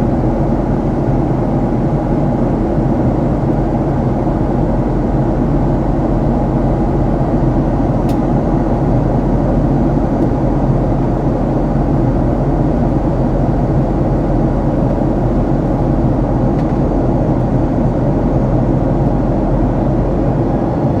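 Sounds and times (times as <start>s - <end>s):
jet engine roar inside cabin: 0.0s - 21.0s.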